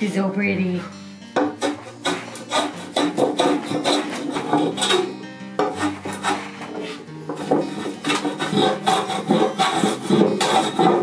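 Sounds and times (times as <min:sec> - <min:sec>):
background music: 0:00.0 - 0:11.0
hand plane rasping strokes: 0:01.4 - 0:11.0.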